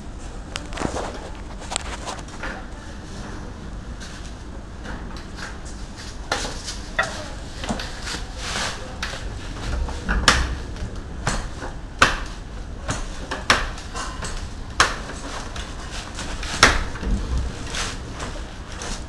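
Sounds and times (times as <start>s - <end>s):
wheelchair wheels rumbling on concrete: 0.6s - 19.0s.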